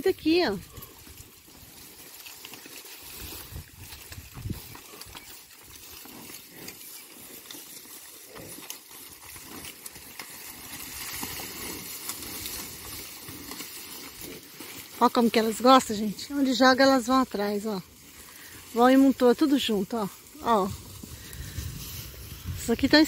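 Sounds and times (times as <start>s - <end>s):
cattle chewing grass: 0.1s - 23.0s.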